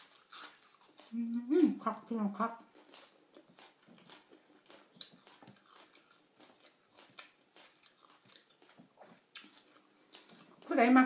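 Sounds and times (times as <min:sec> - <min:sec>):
person chewing: 0:00.0 - 0:01.8, 0:02.5 - 0:10.7.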